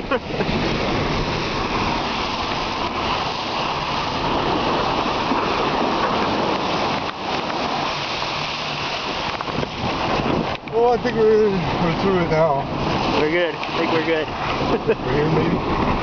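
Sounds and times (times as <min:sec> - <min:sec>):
water rushing against car body: 0:00.0 - 0:16.0.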